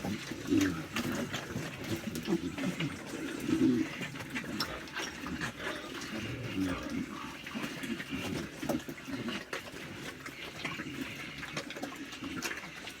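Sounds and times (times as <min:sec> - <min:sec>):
pigs eating wet feed: 0:00.0 - 0:13.0.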